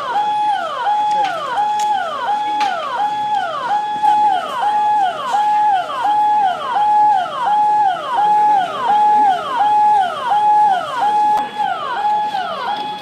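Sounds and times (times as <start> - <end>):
electronic emergency siren: 0.0 - 13.0.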